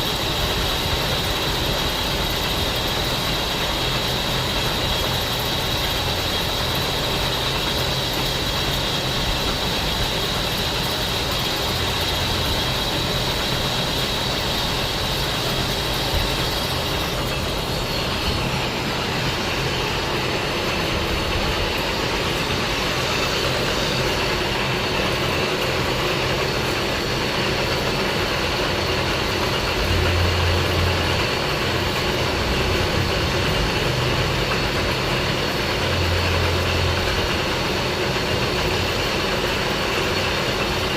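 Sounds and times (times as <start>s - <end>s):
lathe high whine: 0.0s - 40.9s
lathe motor hum: 0.0s - 40.9s.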